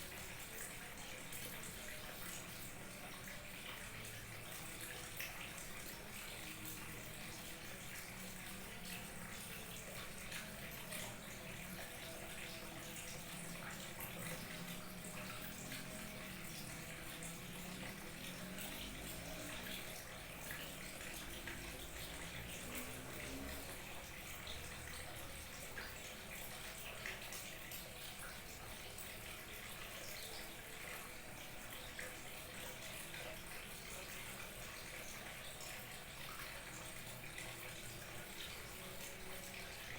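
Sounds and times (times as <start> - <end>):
small waterfall trickling and splashing: 0.0 - 39.9
water gurgling: 0.0 - 39.9.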